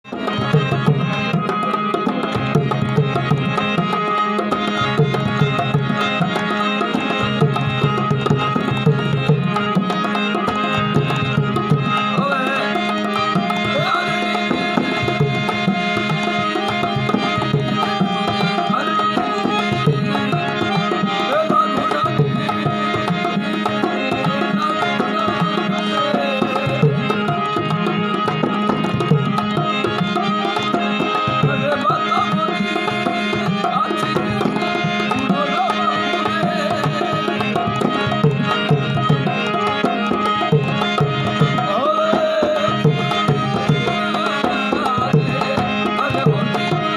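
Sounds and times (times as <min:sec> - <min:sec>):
hand drum rhythm: 0:00.0 - 0:46.9
ornamented melodic line: 0:00.0 - 0:46.9.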